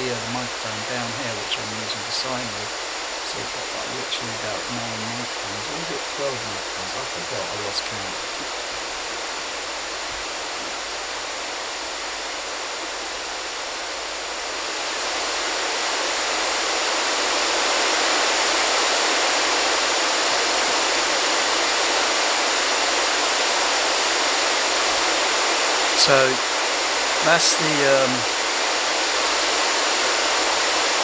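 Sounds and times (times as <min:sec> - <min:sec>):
steady pink noise hiss: 0:00.0 - 0:31.0.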